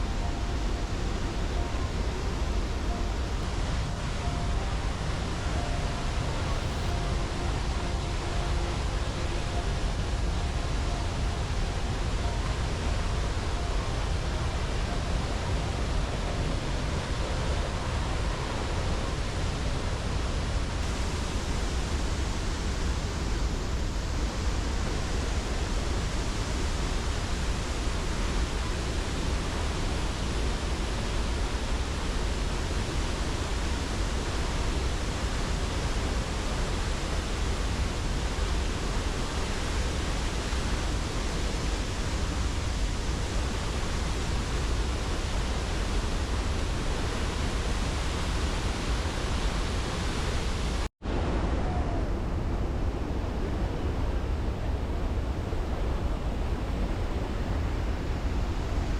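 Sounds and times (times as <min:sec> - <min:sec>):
waterfall rushing: 0:00.0 - 0:51.7.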